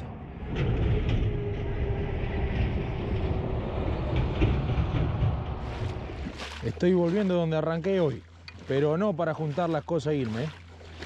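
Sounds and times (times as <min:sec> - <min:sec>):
boat motor humming: 0:00.0 - 0:11.0
wind and water rumble: 0:00.0 - 0:11.0.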